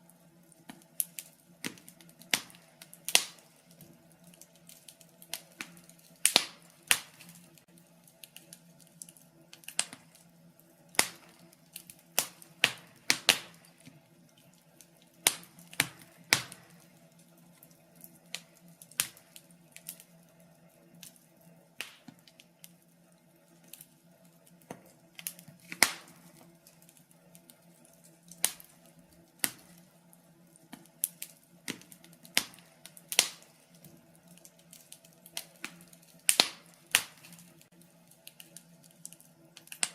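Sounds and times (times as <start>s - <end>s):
fireplace logs crackling: 0.0s - 39.9s.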